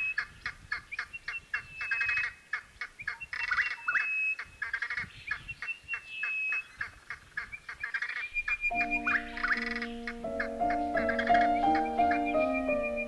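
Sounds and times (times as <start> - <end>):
bird calls with chattering and whistle: 0.0 - 13.0.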